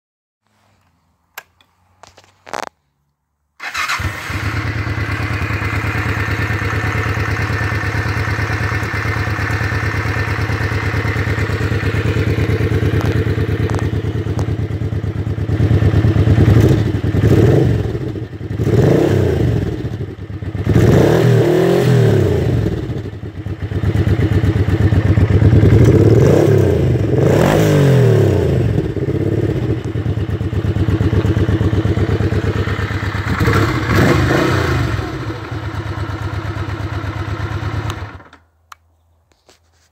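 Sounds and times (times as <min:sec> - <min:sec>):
motorcycle engine idling and revving: 0:03.6 - 0:38.4.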